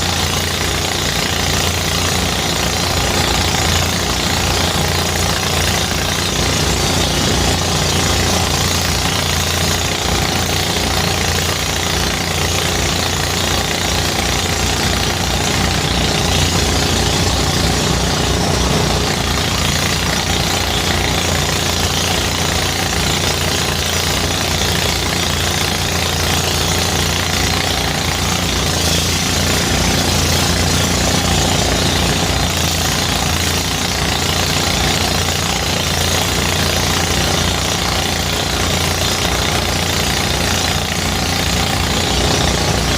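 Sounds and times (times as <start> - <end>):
dense mechanical rush: 0.0 - 42.9
threshing machine engine pulsing: 0.0 - 42.9.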